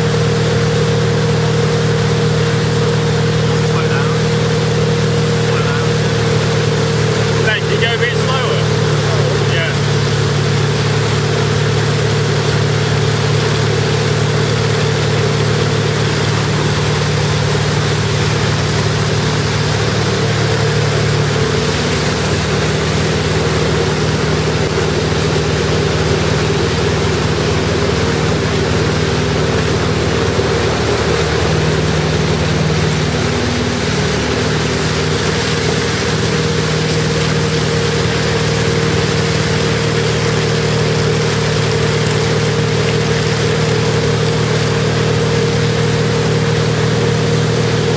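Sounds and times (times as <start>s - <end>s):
boat engine drone: 0.0s - 47.9s
water rushing: 0.0s - 47.9s.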